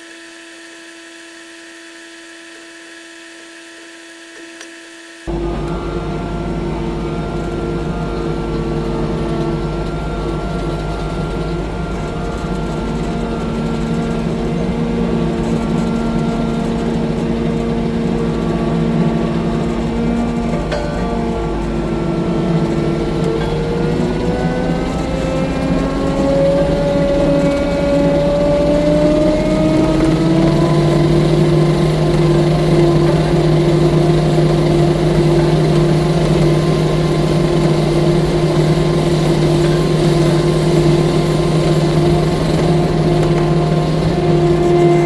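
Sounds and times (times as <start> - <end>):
diesel engine revving: 5.3 - 45.0.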